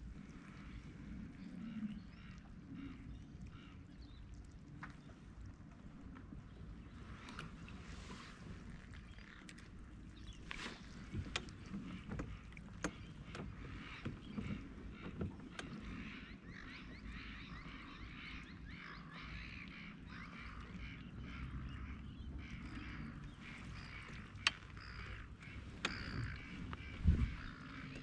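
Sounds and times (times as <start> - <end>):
low rumble of water: 0.0 - 28.0
wind: 0.0 - 28.0
flock of birds chirping: 0.2 - 28.0.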